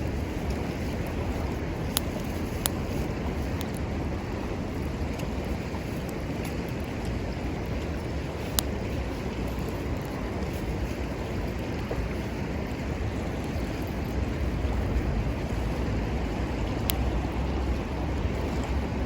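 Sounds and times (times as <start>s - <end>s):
river flowing: 0.0s - 19.0s
wind rumble on microphone: 0.0s - 19.0s.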